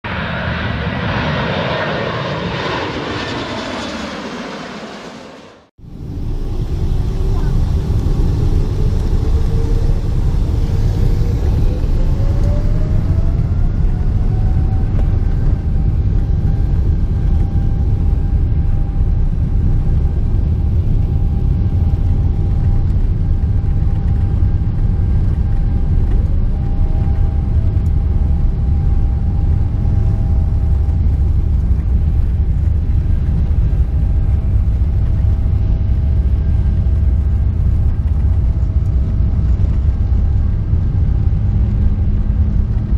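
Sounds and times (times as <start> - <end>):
jet engine whine rising: 0.1 - 42.9
jet engines rumbling in cabin: 0.1 - 42.9.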